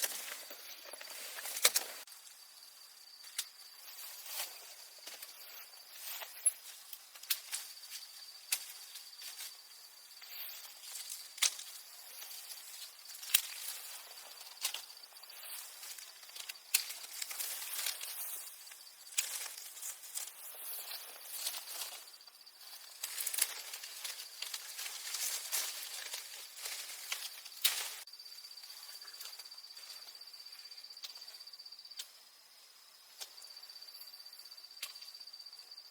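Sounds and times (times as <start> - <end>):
rustling: 0.0 - 2.3, 3.2 - 30.2.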